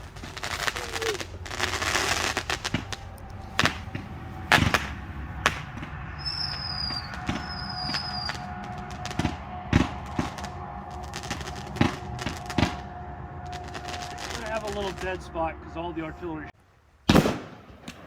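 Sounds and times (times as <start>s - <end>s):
fireworks bangs: 0.0s - 16.5s, 17.1s - 18.0s
high falling whistles: 0.0s - 16.6s.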